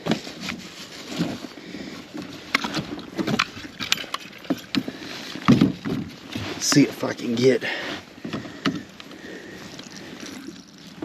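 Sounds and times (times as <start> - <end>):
fish flopping in a boat: 0.0 - 11.0.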